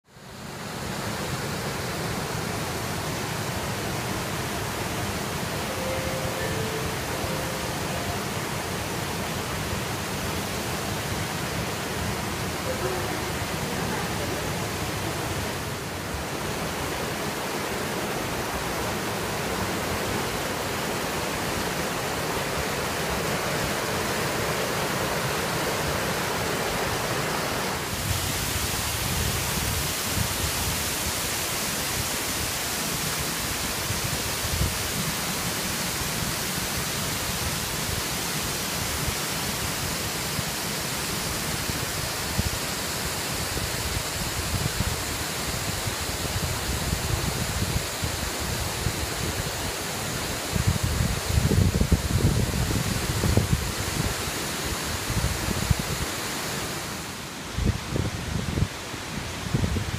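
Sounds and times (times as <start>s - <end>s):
waterfall rushing: 0.1s - 59.9s.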